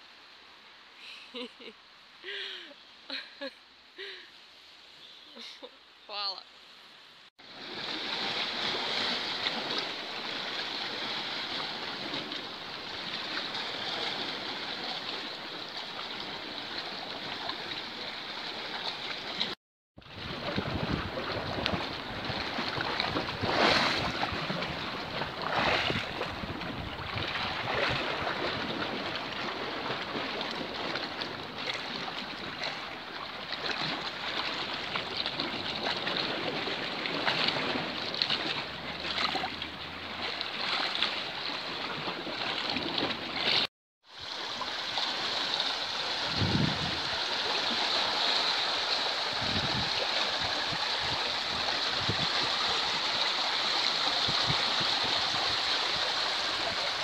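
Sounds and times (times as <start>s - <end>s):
seawater lapping and splashing: 7.4s - 57.0s
water washing over pebbles: 7.4s - 57.0s.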